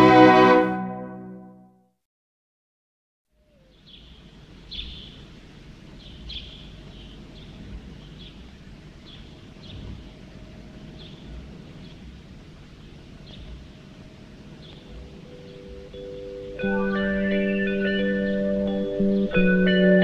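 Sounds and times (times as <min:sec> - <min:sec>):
bird chirping: 0:03.4 - 0:20.0
distant traffic hum: 0:03.4 - 0:20.0.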